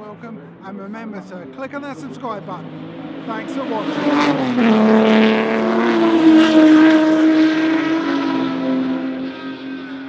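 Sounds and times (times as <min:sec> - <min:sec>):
racing cars engines at speed: 0:00.0 - 0:10.0.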